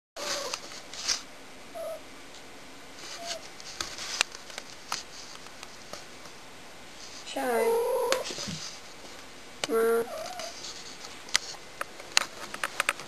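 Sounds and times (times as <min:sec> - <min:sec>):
rustling: 0:00.2 - 0:01.9, 0:03.0 - 0:13.0.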